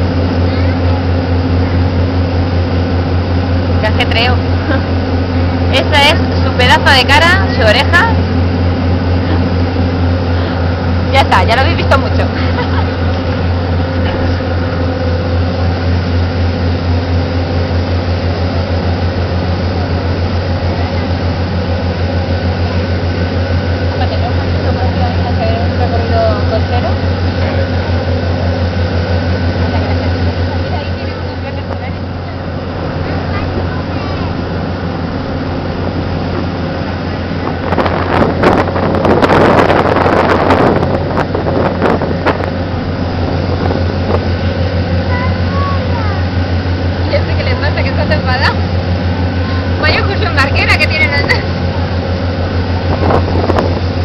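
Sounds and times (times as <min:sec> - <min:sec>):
boat engine droning: 0:00.0 - 0:54.0
wind buffeting microphone: 0:00.0 - 0:54.0.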